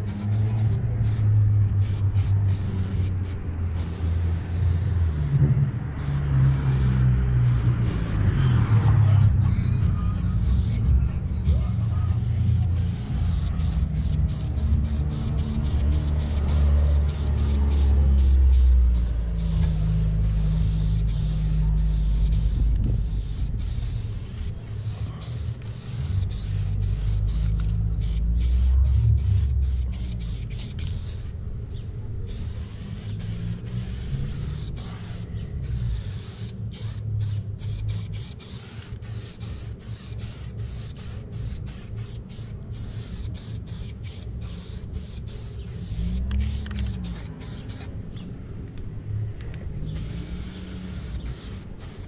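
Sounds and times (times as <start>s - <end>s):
spray paint can hissing: 0.0s - 31.4s, 32.3s - 47.9s, 49.9s - 52.0s
steady low rumble: 0.0s - 51.2s.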